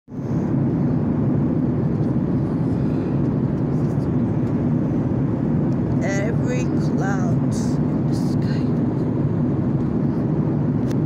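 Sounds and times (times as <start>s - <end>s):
airliner cabin engine rush: 0.1s - 11.0s.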